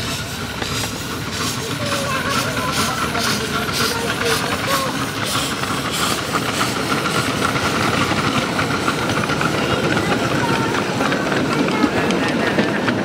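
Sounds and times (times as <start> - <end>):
wheels rattling on rail: 0.0 - 13.0.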